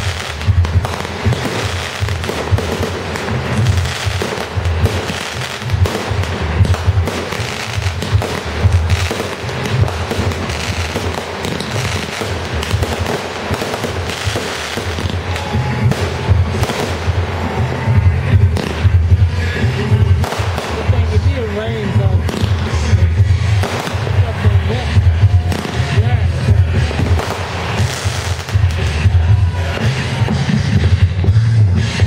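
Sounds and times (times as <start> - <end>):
fireworks bursting and crackling: 0.0 - 32.0
music with pulsing bass beat: 0.0 - 32.0.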